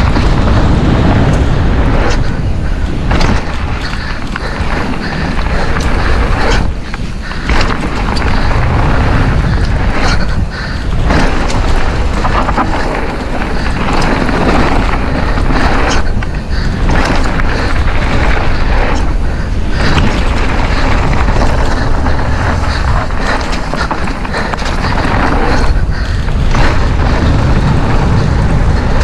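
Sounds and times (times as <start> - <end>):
bike clattering over bumps: 0.0 - 29.0
tyres rolling over dirt: 0.0 - 29.0
wind buffeting microphone: 0.0 - 29.0.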